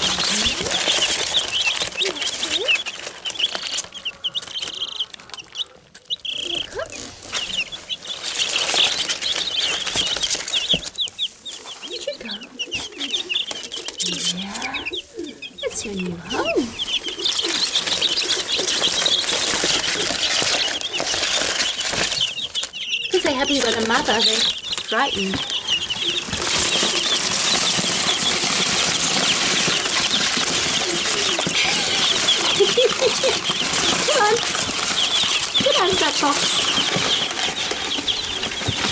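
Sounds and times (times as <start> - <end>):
cardboard and straw rustling: 0.0 - 38.9
chicks peeping: 0.0 - 38.9.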